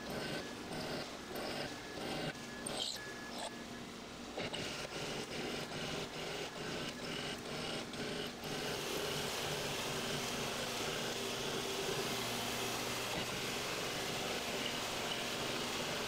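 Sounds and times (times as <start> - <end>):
milling machine whirring: 0.0 - 16.0.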